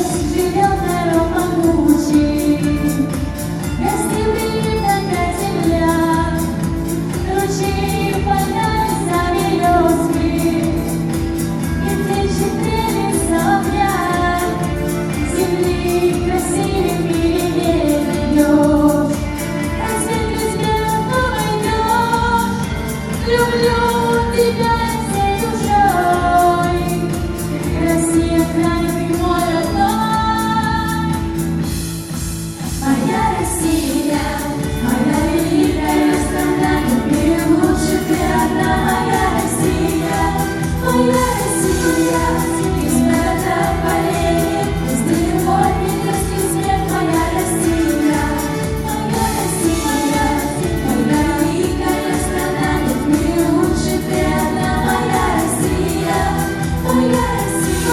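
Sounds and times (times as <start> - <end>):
live song with singing voices: 0.0 - 57.9.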